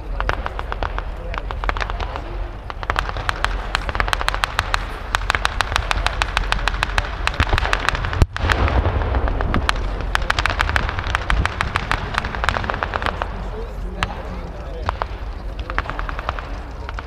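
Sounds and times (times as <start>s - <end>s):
heavy boom: 0.0s - 17.0s.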